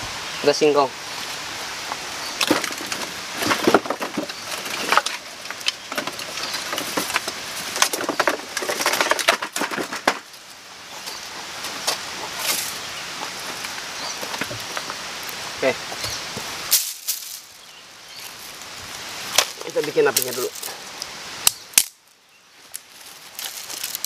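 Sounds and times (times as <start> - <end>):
firewood sticks clattering: 1.8 - 17.6, 18.2 - 22.0, 22.7 - 24.0.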